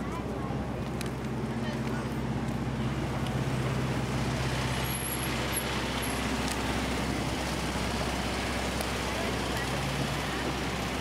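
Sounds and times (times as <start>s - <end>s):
city street noise: 0.0s - 11.0s
truck engine idling: 0.0s - 11.0s.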